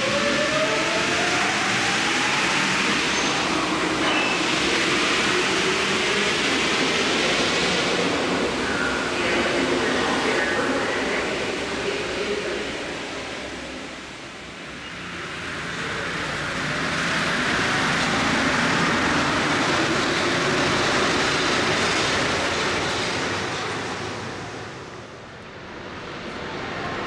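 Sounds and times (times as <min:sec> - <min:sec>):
metro train pulling out: 0:00.0 - 0:27.0.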